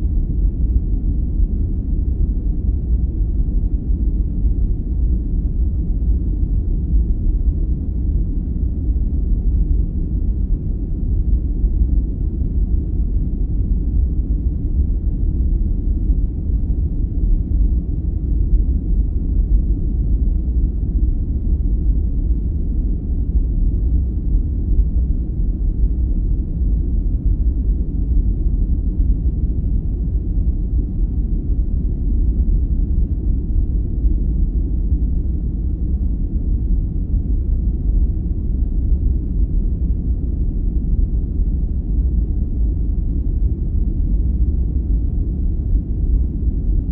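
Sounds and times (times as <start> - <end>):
deep rumbling steady noise: 0.0 - 46.9.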